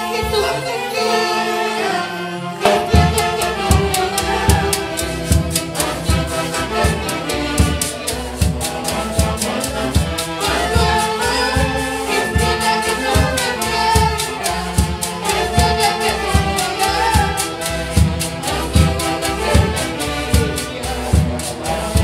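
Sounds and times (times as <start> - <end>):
festival orchestra dance music: 0.0 - 22.0.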